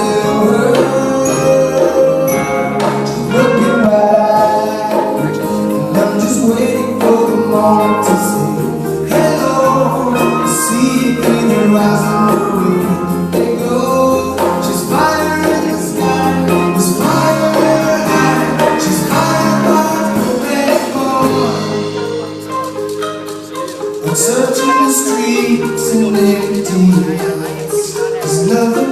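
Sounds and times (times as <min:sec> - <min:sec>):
bass line: 0:00.0 - 0:28.9
person singing: 0:00.0 - 0:28.9.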